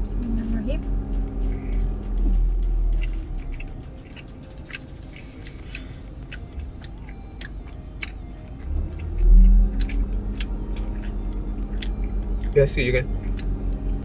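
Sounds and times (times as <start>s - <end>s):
deep rumble: 0.0s - 14.0s
mouth clicks: 1.4s - 13.6s
chewing fried chicken: 1.4s - 14.0s.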